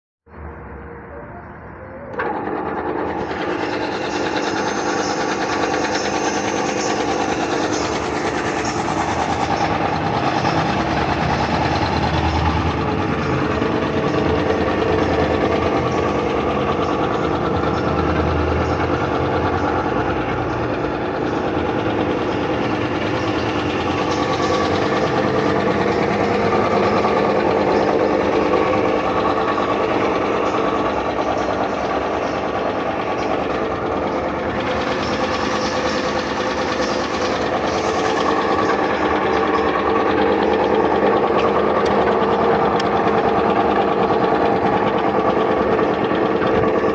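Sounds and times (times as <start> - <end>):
air compressor droning: 2.1 - 46.9.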